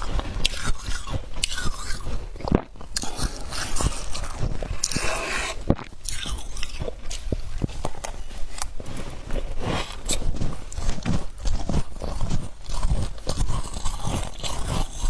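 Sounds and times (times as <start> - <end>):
crunching frost in mouth: 0.0 - 15.0.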